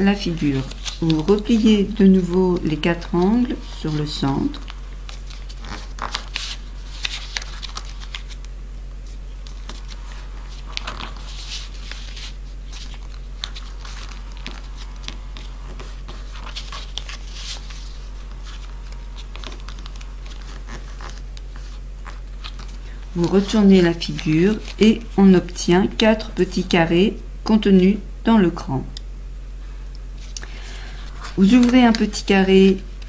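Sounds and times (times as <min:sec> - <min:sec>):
paper rustling and crinkling: 0:00.0 - 0:25.2, 0:30.2 - 0:33.0
steady low hum: 0:00.0 - 0:33.0.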